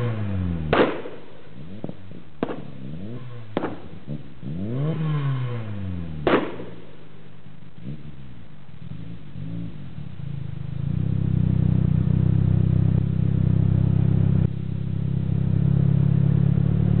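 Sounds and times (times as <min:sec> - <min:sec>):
car engine revving and stuttering: 0:00.0 - 0:17.0.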